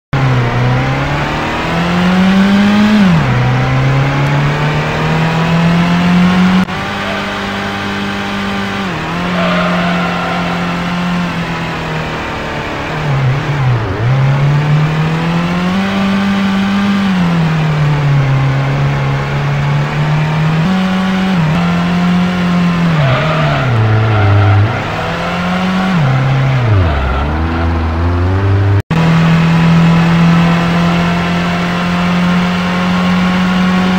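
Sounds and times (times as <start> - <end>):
car engine revving: 0.2 - 33.9.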